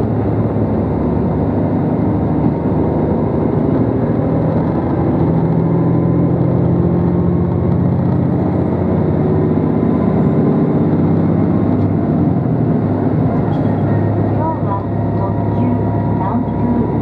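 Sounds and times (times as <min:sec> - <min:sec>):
diesel train engines humming: 0:00.0 - 0:17.0.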